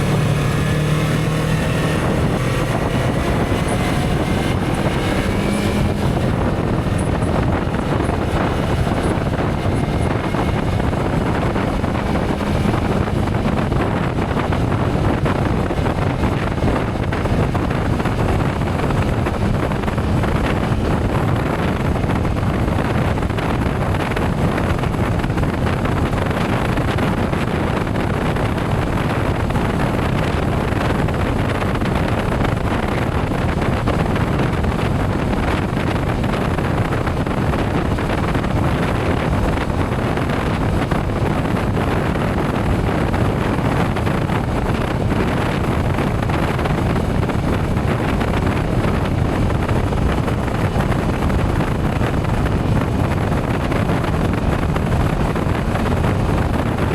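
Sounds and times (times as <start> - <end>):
motorcycle running and road noise: 0.0 - 56.9
wind rushing over microphone: 0.0 - 56.9.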